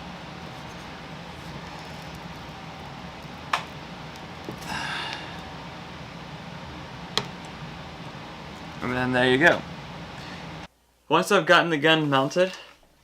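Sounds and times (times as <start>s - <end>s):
low hum: 0.0s - 10.7s.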